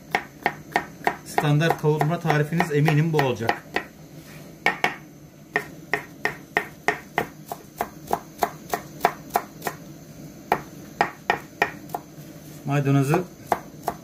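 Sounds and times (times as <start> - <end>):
knife chopping on wooden board: 0.0 - 3.9, 4.6 - 9.8, 10.5 - 12.1, 13.1 - 14.0.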